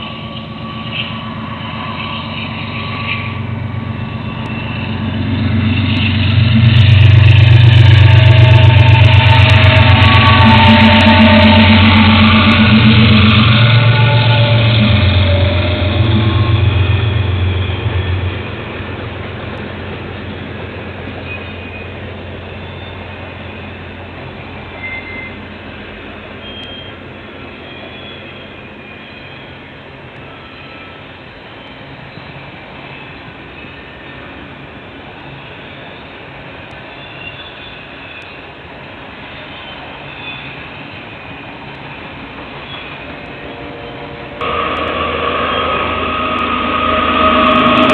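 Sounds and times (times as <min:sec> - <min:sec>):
train rolling noise: 0:00.0 - 0:47.9
train rumbling past: 0:00.0 - 0:47.9.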